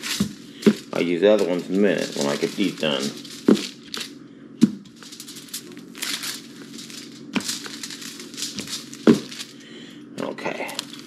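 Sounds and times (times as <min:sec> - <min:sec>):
can rolling over dough: 0:00.0 - 0:11.0
foil rustling and crinkling: 0:00.0 - 0:11.0.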